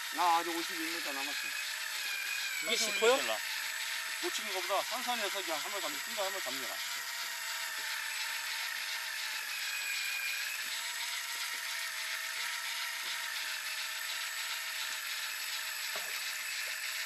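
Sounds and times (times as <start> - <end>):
fishing reel whirring: 0.0 - 17.0.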